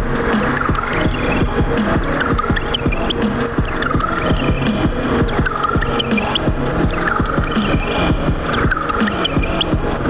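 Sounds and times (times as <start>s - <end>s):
chirping high synth blips: 0.0s - 10.0s
drum machine: 0.0s - 10.0s
pulsing synthesizer bass line: 0.0s - 10.0s.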